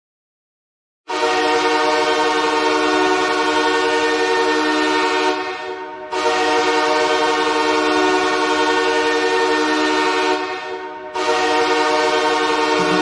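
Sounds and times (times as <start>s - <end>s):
goal horn blast: 1.1s - 9.0s, 9.6s - 13.0s.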